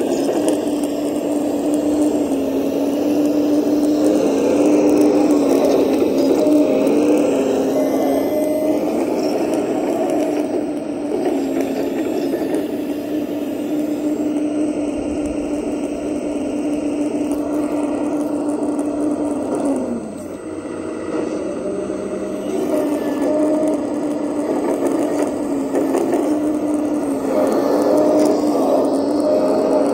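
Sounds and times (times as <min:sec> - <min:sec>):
mechanical noise: 0:00.0 - 0:29.9
small electric motor whining: 0:00.0 - 0:29.9.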